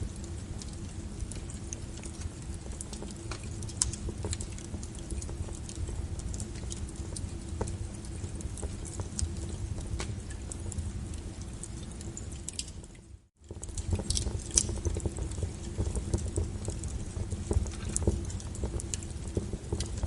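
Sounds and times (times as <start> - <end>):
low rumble of burning logs: 0.0 - 20.0
wood fire crackling: 0.0 - 20.0.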